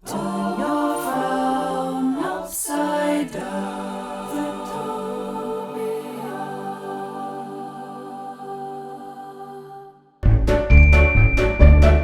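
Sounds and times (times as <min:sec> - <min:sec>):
a cappella voices singing: 0:00.0 - 0:10.2.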